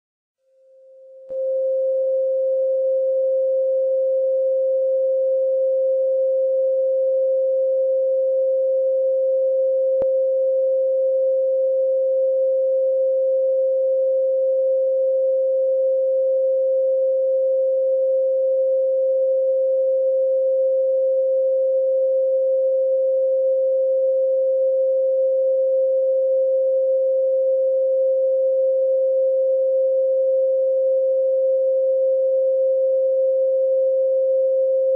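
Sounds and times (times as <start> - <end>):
pure sine tone: 0.4 - 34.9.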